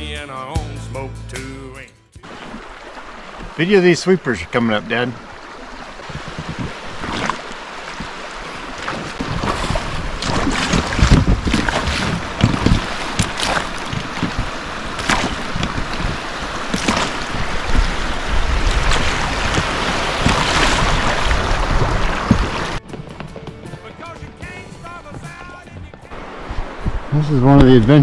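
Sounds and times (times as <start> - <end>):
river water: 1.6 - 28.0
wind buffeting microphone: 5.2 - 28.0.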